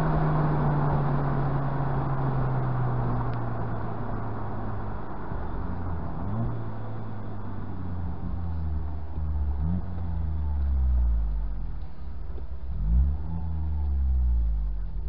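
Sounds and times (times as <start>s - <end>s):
car engine running: 0.0s - 15.0s
road and wind noise: 0.0s - 15.0s.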